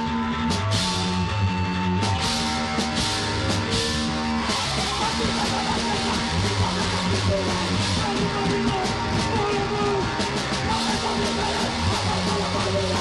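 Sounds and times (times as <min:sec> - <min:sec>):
heavy rock music: 0:00.0 - 0:13.0.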